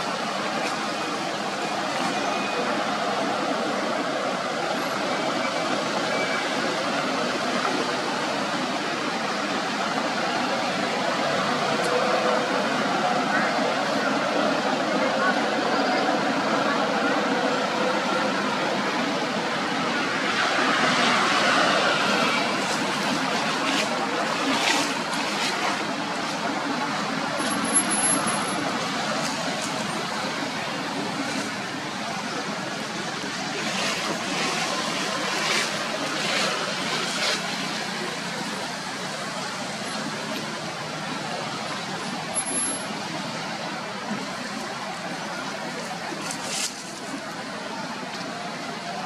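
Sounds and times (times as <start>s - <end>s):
outdoor background noise: 0.0s - 49.0s.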